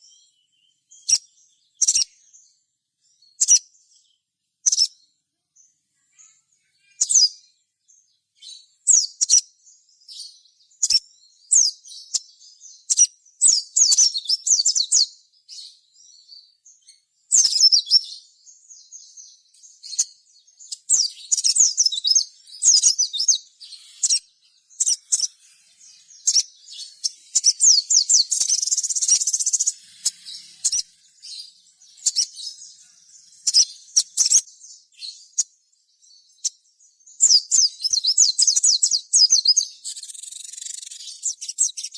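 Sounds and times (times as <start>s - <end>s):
bird high-pitched chirping bursts: 0.0s - 2.3s, 3.3s - 3.7s, 4.6s - 5.0s, 6.1s - 7.5s, 8.4s - 41.9s.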